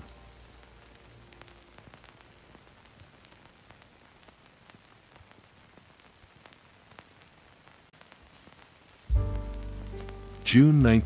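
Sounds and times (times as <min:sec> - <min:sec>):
static hiss with crackling clicks: 0:00.0 - 0:11.0.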